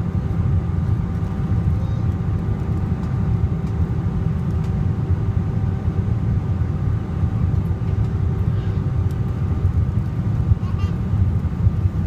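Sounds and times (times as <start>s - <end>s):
engine and airflow rumble: 0.0s - 12.0s.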